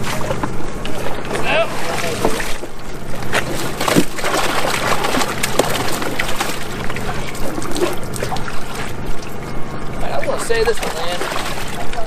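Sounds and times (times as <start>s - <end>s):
water sloshing in a plastic tub: 0.0s - 12.0s.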